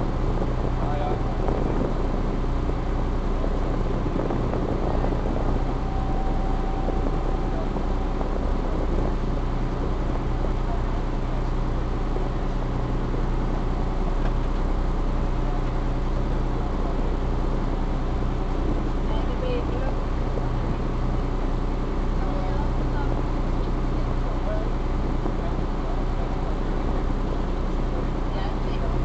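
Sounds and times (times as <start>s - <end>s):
ferry engine humming: 0.0s - 29.0s.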